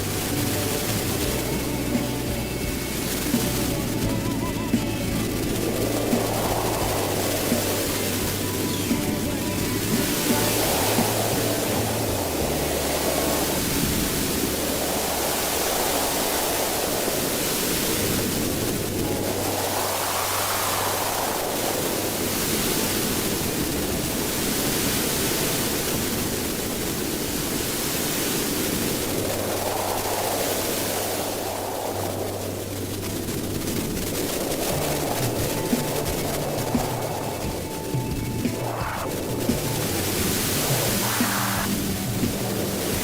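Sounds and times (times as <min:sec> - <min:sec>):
strong gusting wind: 0:00.0 - 0:43.0.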